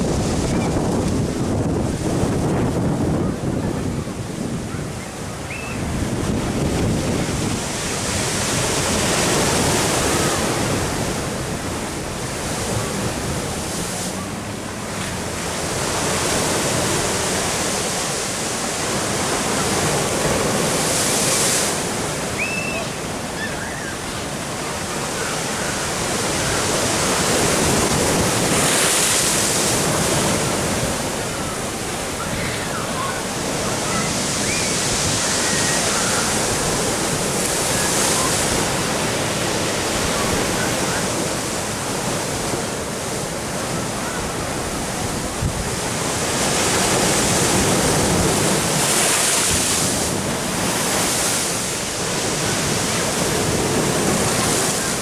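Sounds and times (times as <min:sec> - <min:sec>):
wind buffeting microphone: 0:00.0 - 0:18.3, 0:25.1 - 0:55.0
ocean surf washing in: 0:00.0 - 0:55.0.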